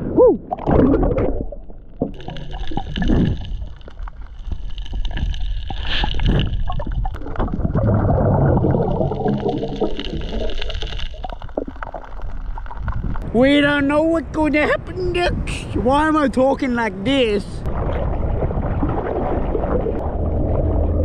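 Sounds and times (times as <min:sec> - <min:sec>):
underwater surf rumble and bubbling: 0:00.0 - 0:13.6, 0:17.6 - 0:21.0.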